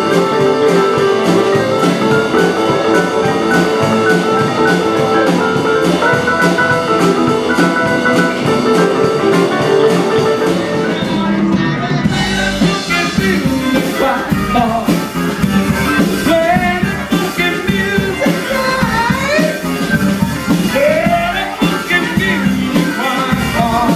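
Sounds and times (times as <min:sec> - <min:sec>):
drum kit beat: 0:00.0 - 0:23.9
pitch-bending melodic lines: 0:00.0 - 0:23.9
rock band music: 0:00.0 - 0:23.9.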